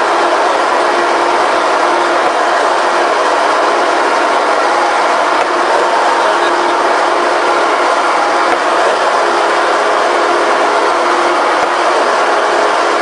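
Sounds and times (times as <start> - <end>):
punching machine running: 0.0 - 13.0.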